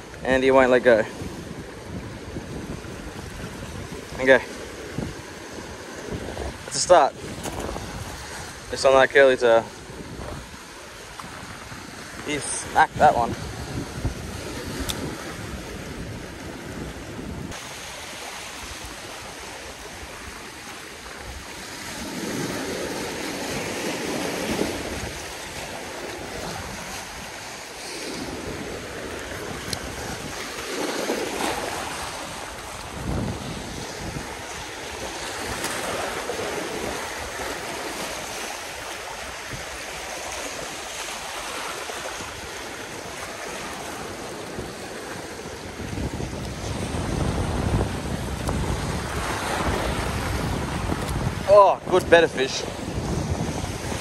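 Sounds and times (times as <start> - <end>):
waves washing over rocks: 0.0 - 54.0
wind buffeting the microphone: 0.0 - 54.0.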